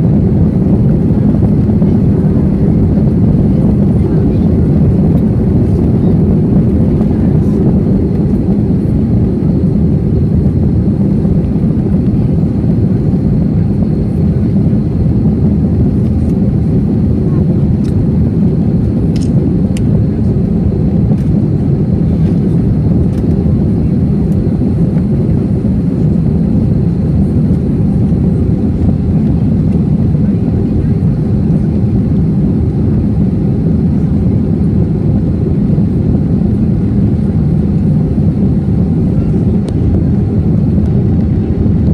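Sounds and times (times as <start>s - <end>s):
airplane cabin engine roar: 0.0s - 41.9s.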